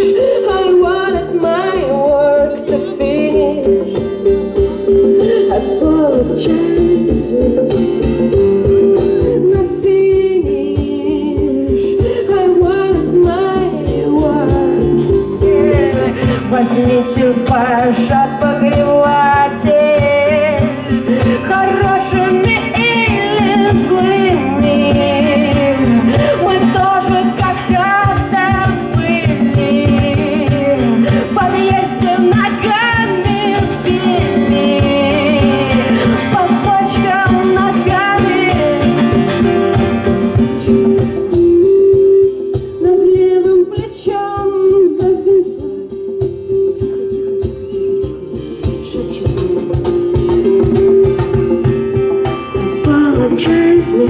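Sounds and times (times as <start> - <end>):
guitar: 0.0 - 54.0
person singing: 0.0 - 54.0
steady beat: 3.7 - 54.0.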